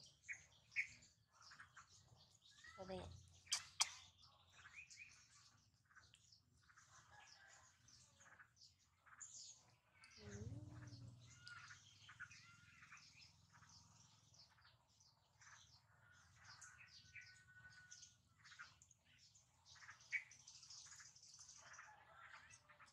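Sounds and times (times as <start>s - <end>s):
small birds chirping: 0.0s - 22.9s.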